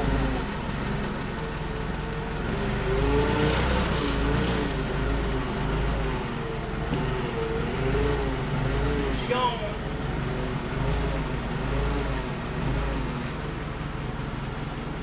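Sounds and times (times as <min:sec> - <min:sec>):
forklift engine running: 0:00.0 - 0:15.0.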